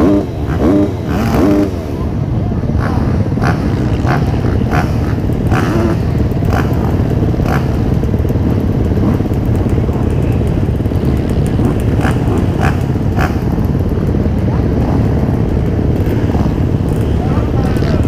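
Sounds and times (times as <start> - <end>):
motocross bike engines racing: 0.0 - 18.0.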